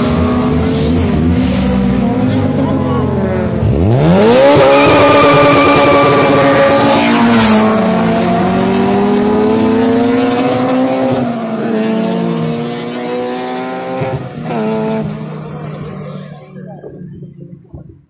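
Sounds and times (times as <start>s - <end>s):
car engine accelerating hard: 0.0s - 17.7s.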